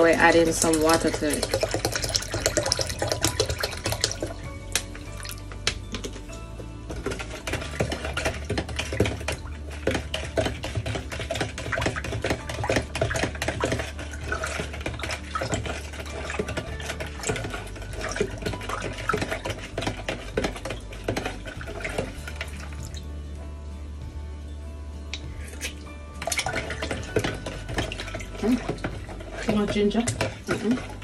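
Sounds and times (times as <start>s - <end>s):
metal spoon stirring in plastic pitcher: 0.0s - 22.9s, 25.2s - 31.0s
liquid sloshing: 0.0s - 23.1s, 25.2s - 31.0s.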